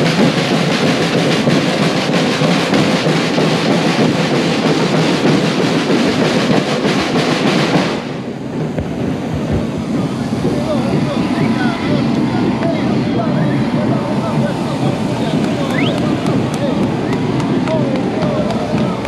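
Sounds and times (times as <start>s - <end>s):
snare drums: 0.0s - 19.0s.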